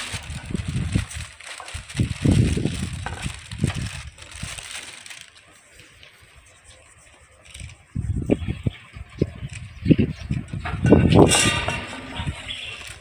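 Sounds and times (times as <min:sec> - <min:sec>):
wind on microphone: 0:00.0 - 0:04.7, 0:06.2 - 0:13.0
plastic sack rustling: 0:00.0 - 0:08.1, 0:10.4 - 0:13.0.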